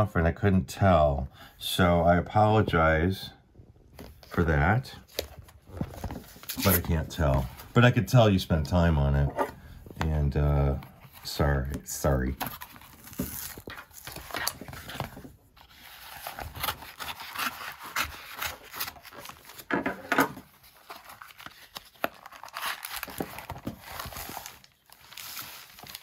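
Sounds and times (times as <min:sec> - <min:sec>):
paper and card rustling: 0:04.0 - 0:26.0.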